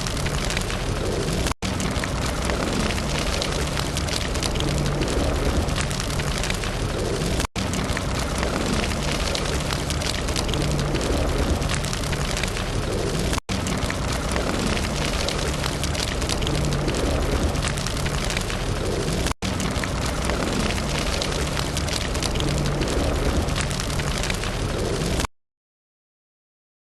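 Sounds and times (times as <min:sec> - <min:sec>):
campfire crackling: 0:00.0 - 0:25.3.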